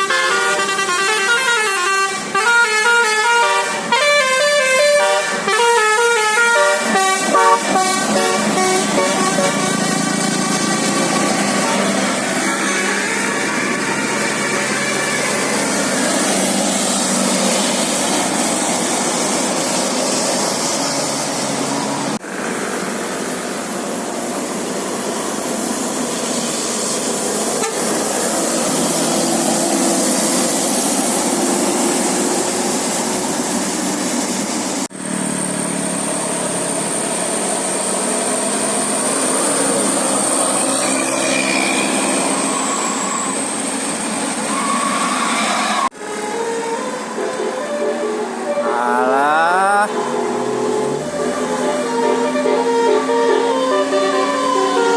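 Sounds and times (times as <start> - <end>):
buses and traffic going by: 0.0 - 54.9.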